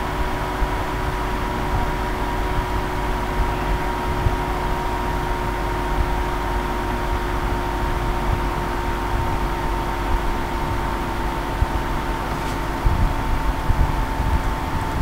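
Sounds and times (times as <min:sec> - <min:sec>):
high electrical whine: 0:00.0 - 0:15.0
low hum: 0:00.0 - 0:15.0.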